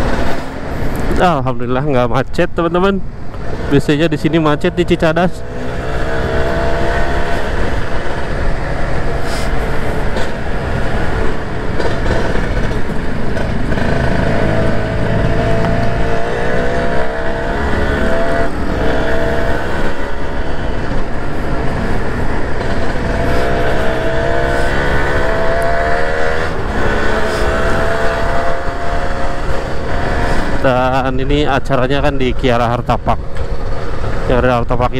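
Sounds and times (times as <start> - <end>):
motorcycle engine revving through gears: 3.4 - 34.9.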